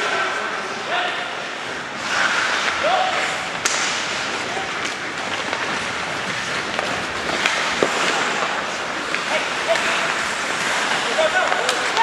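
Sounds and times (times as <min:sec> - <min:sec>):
skate blades scraping ice: 0:01.5 - 0:12.0
hockey sticks and puck clacking: 0:01.6 - 0:12.0.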